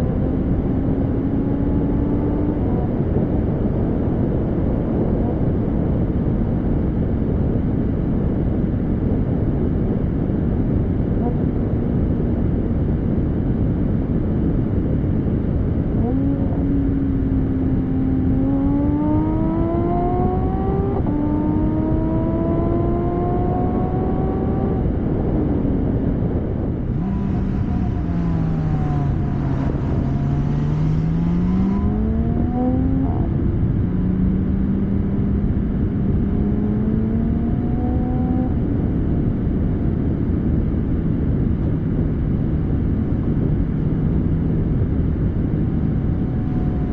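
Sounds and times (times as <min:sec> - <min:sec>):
sports car engine accelerating: 0:00.0 - 0:06.4, 0:13.4 - 0:46.9
road and wind noise: 0:00.0 - 0:46.9.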